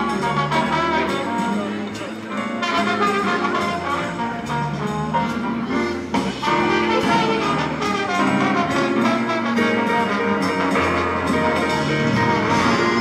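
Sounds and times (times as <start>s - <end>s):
brass instruments: 0.0s - 13.0s
jazz band playing: 0.0s - 13.0s.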